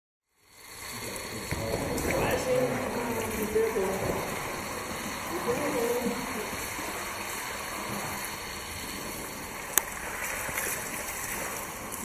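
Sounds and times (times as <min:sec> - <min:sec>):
water spattering into a pool: 0:00.3 - 0:12.0
water spraying from a hose: 0:00.3 - 0:12.0.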